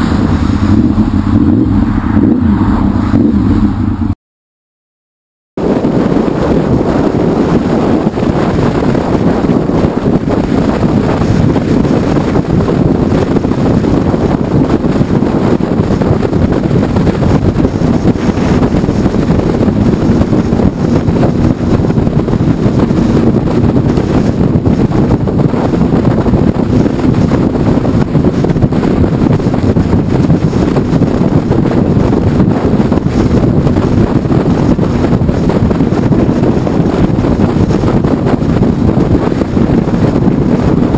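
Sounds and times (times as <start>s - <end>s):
motorcycle engine humming: 0.0s - 4.2s, 5.6s - 40.9s
wind rush over microphone: 0.0s - 4.2s, 5.6s - 40.9s.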